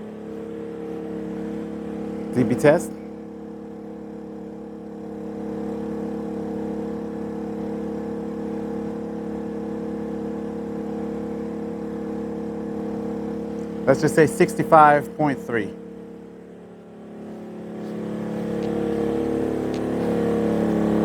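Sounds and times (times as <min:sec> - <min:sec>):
generator engine hum: 0:00.0 - 0:21.0.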